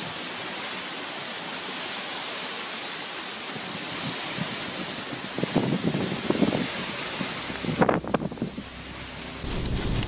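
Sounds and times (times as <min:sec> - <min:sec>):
heavy rain and wind: 0:00.0 - 0:10.0.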